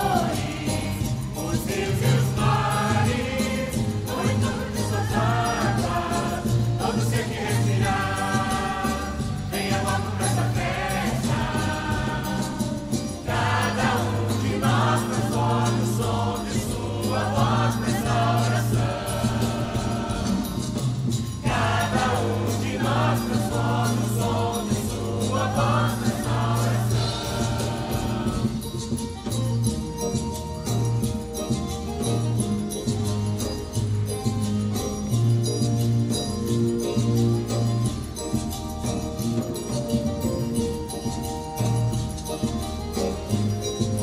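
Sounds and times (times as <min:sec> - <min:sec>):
choir singing with accompaniment: 0:00.0 - 0:44.0.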